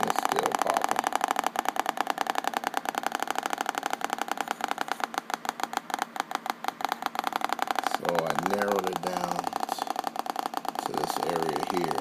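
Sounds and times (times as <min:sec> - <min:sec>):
laptop speaker clicking: 0:00.0 - 0:12.0.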